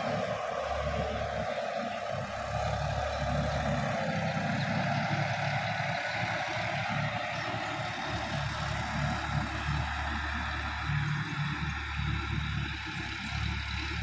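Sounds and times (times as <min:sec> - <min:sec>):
distant tractor engine drone: 0:00.0 - 0:14.0.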